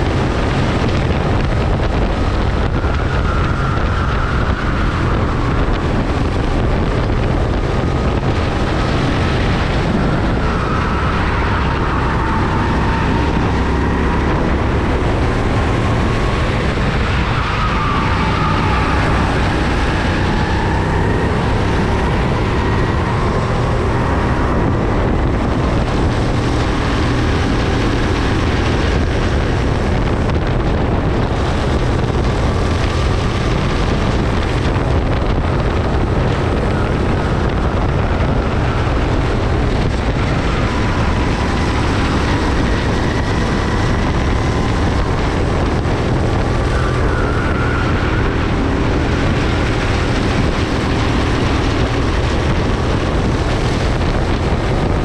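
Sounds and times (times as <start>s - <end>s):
kart engine running hard: 0.0s - 55.0s
wind noise on microphone: 0.0s - 55.0s.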